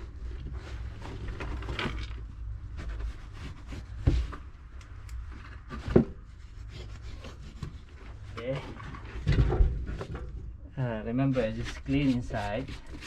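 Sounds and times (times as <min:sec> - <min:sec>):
insulation rustling and rubbing: 0:00.0 - 0:13.0.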